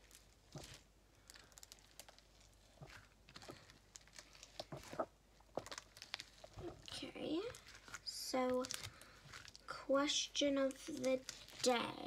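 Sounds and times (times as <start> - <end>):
slime clicking and squelching: 0.0 - 12.0.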